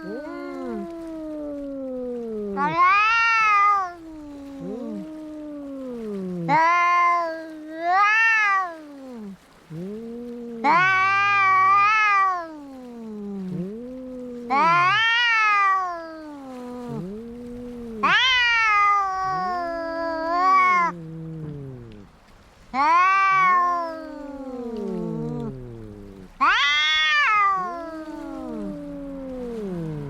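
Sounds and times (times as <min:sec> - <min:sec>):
cat high wailing yowls: 0:00.0 - 0:22.1, 0:22.7 - 0:30.0
cat low moaning yowl: 0:00.0 - 0:30.0.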